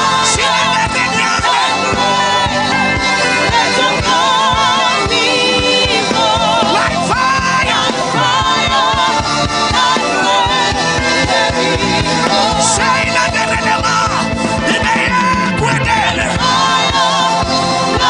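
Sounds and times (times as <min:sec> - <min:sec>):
steady drum beat: 0:00.0 - 0:18.0.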